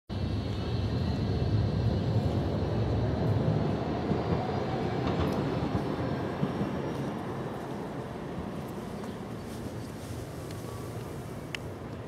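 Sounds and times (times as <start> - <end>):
city ambience rumble: 0.1 - 12.0.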